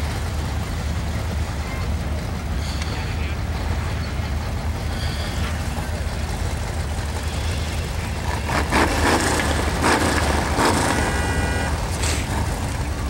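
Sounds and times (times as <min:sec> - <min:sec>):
race car engines: 0:00.0 - 0:13.0
steady low rumble: 0:00.0 - 0:13.0.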